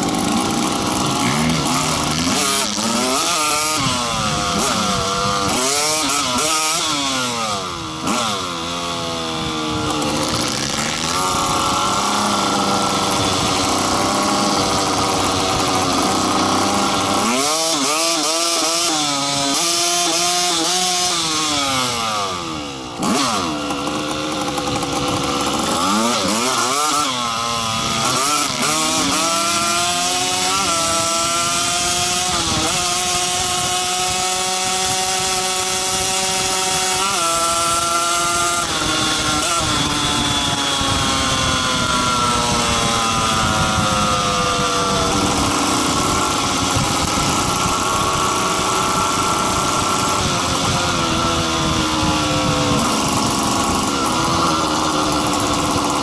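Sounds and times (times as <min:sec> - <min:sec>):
small motorcycle engine revving: 0:00.0 - 0:56.0.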